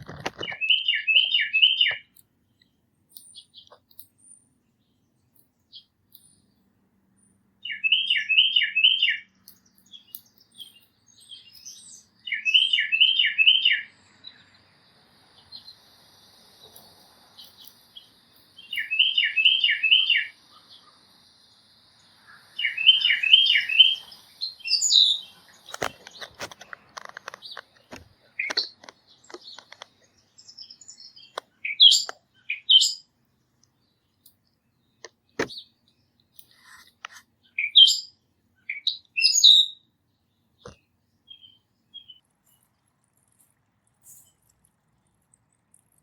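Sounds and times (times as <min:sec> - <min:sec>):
songbirds singing and chirping: 0:00.0 - 0:46.0.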